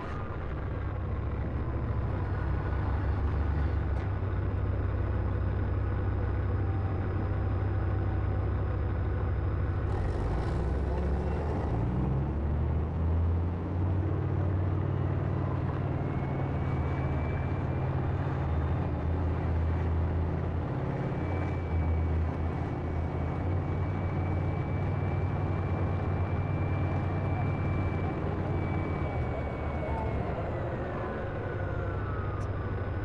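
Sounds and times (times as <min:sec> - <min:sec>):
tank diesel engine droning: 0:00.0 - 0:33.0.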